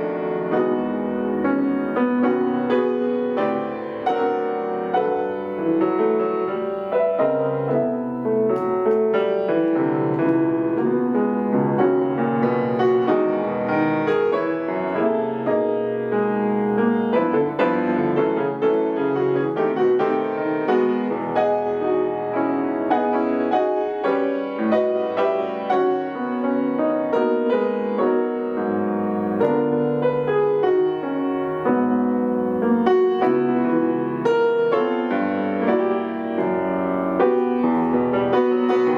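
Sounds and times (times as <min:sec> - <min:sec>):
solo piano playing: 0:00.0 - 0:38.9.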